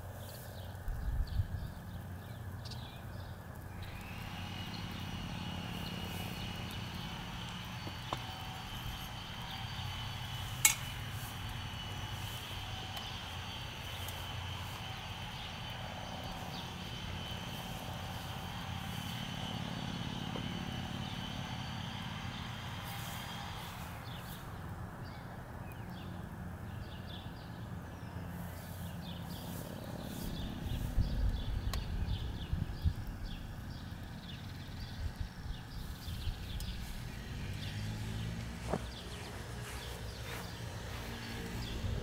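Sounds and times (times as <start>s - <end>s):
low outdoor background drone: 0.0s - 42.0s.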